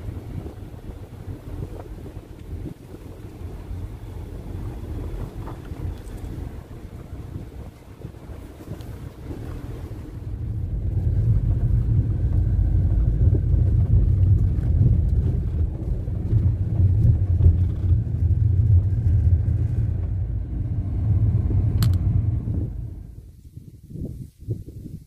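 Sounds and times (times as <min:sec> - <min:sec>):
vehicle rumbling on dirt road: 0:00.0 - 0:23.4
wind buffeting microphone: 0:00.0 - 0:25.0.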